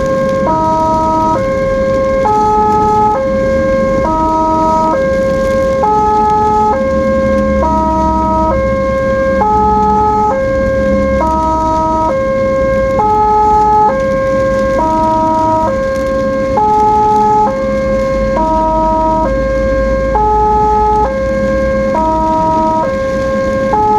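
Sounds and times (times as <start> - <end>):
ambulance siren two-tone wail: 0.0 - 23.9
low road rumble: 0.0 - 23.9.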